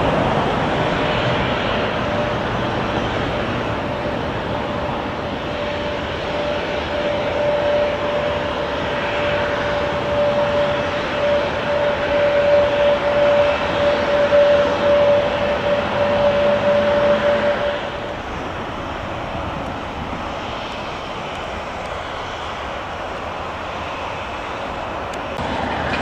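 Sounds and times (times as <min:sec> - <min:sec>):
jet engines rushing and whining: 0:00.0 - 0:26.0.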